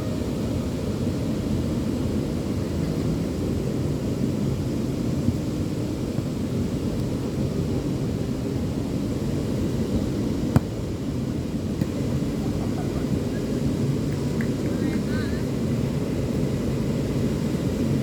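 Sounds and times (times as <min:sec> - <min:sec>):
surf roar: 0:00.0 - 0:18.0
wind: 0:00.0 - 0:18.0.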